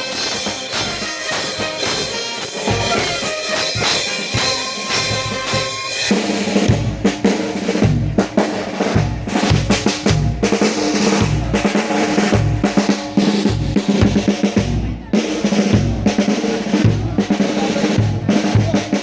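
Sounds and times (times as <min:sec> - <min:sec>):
bass drum and snare beat: 0:00.0 - 0:19.0
brass horns playing march: 0:00.0 - 0:19.0.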